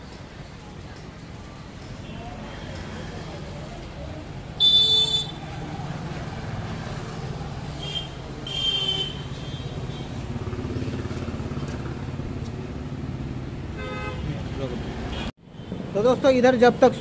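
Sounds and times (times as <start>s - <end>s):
vehicle engine rumbling: 0.0s - 15.3s.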